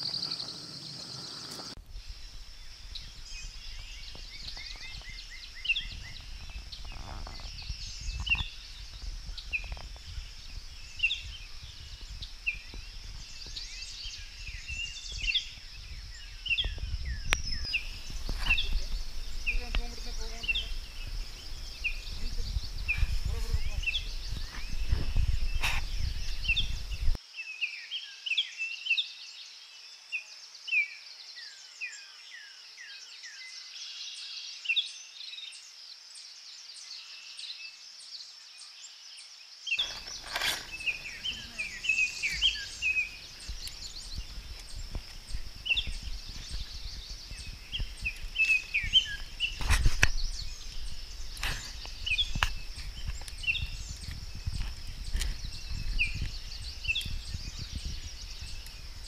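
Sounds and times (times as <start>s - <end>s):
birds chirping and singing: 0.0s - 29.1s, 39.7s - 59.0s.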